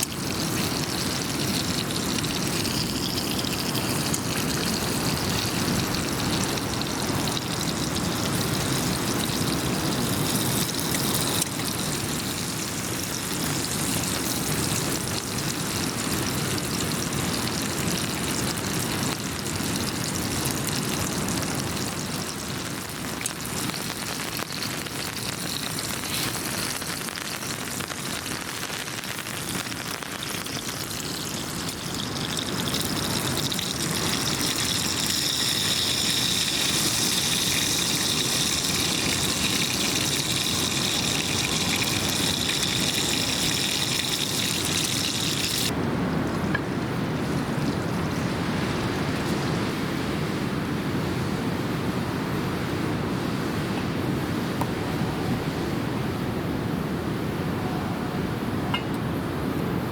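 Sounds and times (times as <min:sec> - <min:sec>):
steady rushing water-like noise: 0:00.0 - 0:59.9.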